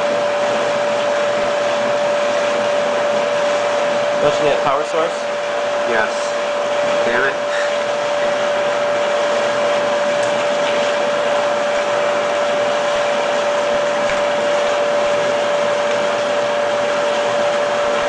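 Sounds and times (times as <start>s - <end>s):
electric pump motor whining: 0.0s - 18.0s.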